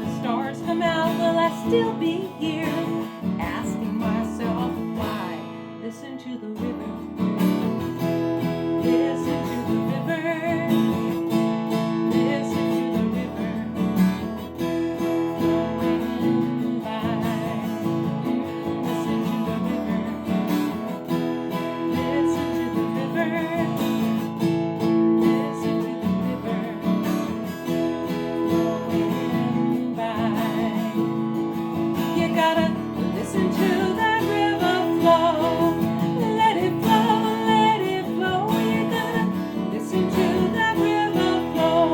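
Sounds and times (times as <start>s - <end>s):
acoustic guitar strumming chords: 0.0s - 41.9s.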